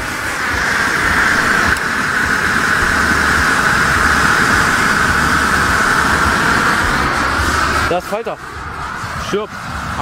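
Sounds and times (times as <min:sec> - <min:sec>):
flare burning with steady hiss: 0:00.0 - 0:10.0.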